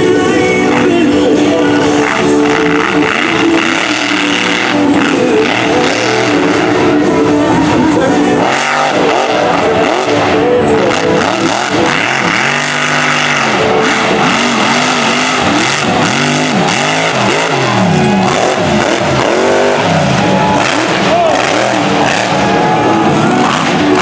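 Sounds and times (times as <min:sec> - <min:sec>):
tires churning dirt: 0:00.0 - 0:24.0
truck engine revving: 0:00.0 - 0:24.0.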